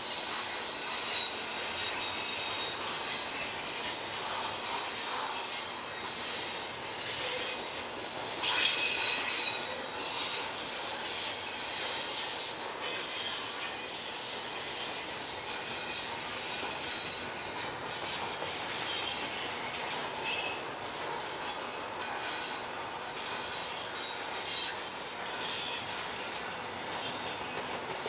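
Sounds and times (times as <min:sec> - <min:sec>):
train running noise: 0:00.0 - 0:28.0
train wheels squealing on rails: 0:00.0 - 0:28.0.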